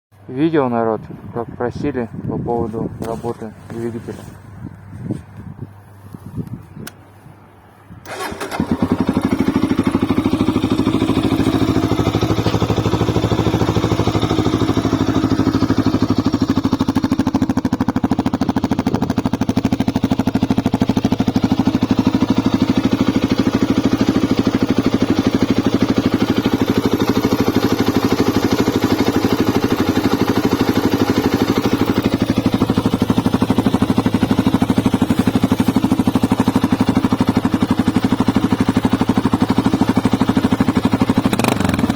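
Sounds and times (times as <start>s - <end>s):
vehicle engine idling: 2.6s - 41.9s.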